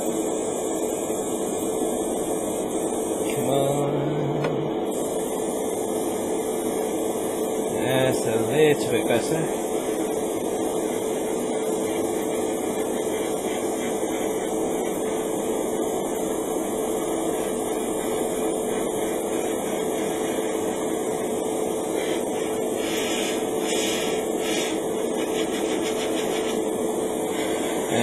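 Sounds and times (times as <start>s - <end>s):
extractor fan humming: 0.0s - 28.0s
airbrush spraying: 4.9s - 28.0s.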